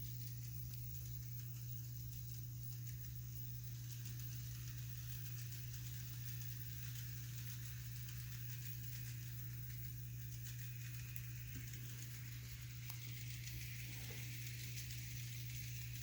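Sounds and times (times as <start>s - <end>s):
model train running: 0.0s - 16.0s.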